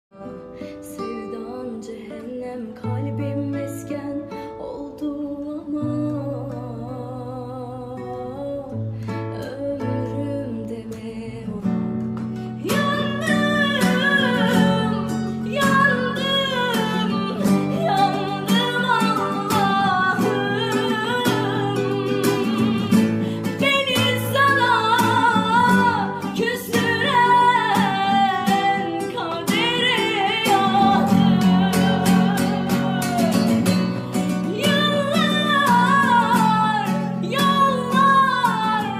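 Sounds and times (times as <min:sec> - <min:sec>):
acoustic guitar: 0:00.1 - 0:38.9
girl singing: 0:00.1 - 0:38.9.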